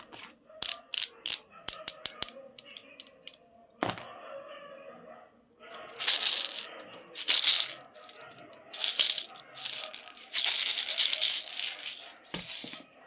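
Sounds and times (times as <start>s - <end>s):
plastic pop tubes crackling: 0.0s - 4.0s, 5.7s - 12.8s.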